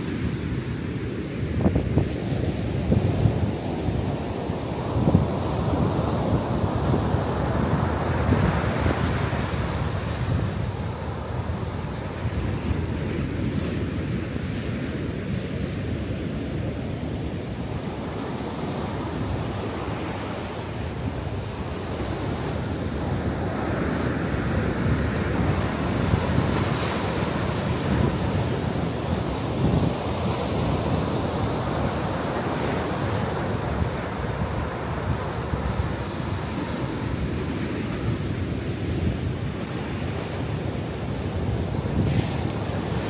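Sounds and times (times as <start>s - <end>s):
ocean surf breaking: 0.0s - 43.0s
wind buffeting microphone: 0.1s - 43.0s.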